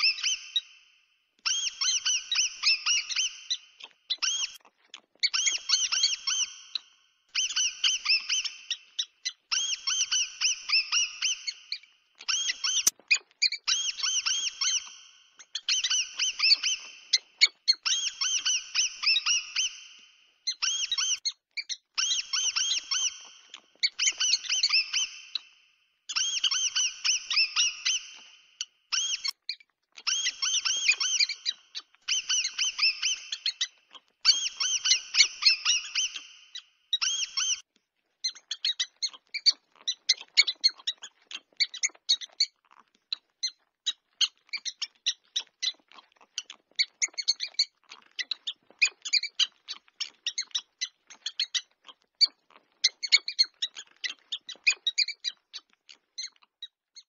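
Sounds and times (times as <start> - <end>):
mouse squeaking: 0.0 - 0.7, 1.4 - 57.0.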